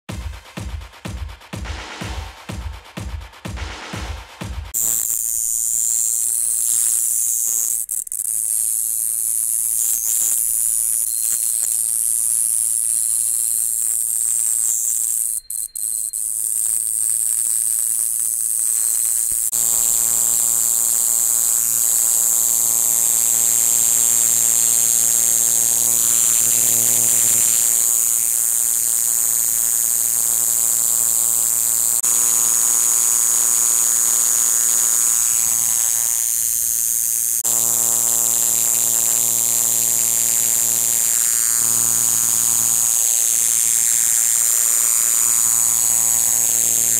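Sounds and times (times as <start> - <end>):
katydid high-pitched buzz: 4.8 - 46.9.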